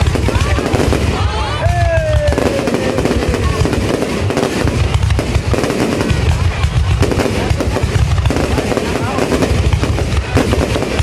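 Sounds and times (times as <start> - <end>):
deep booms: 0.0 - 11.0
fireworks crackling and popping: 0.0 - 11.0.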